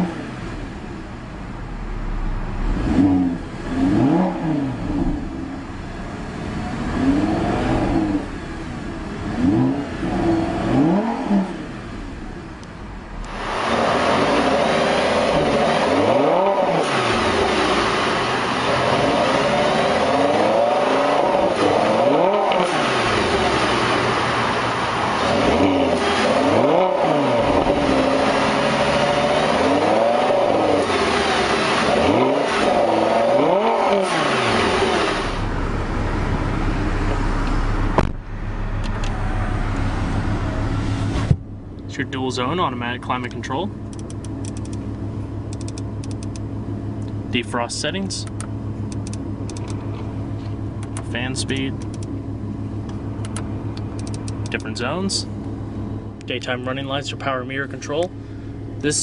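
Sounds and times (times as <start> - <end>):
sports car engine revving: 0.0 - 59.0.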